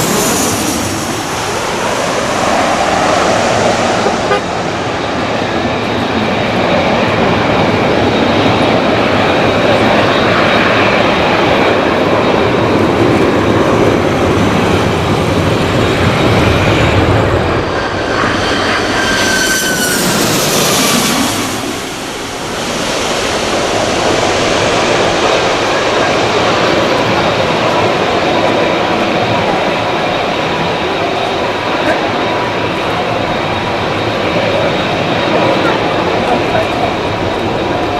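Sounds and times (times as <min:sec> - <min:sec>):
jet engines roaring: 0:00.0 - 0:37.9
whining aircraft engine passing: 0:00.0 - 0:37.9.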